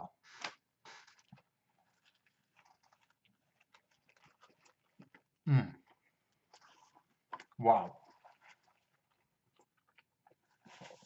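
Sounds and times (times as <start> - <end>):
chewing crispy food: 0.3 - 11.0.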